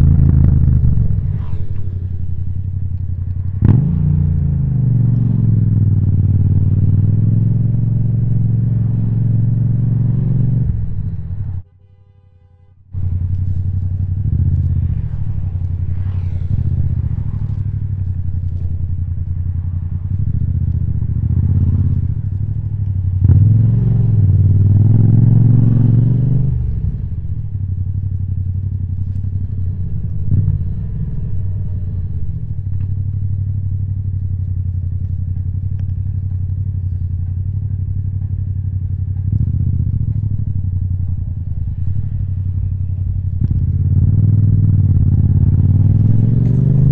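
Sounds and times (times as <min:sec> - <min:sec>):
motorcycle engine revving: 0:00.0 - 0:11.6, 0:12.9 - 0:46.9.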